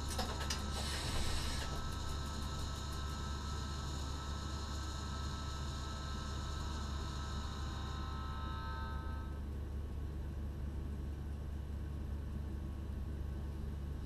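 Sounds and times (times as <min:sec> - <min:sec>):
electrical equipment humming: 0:00.0 - 0:14.0.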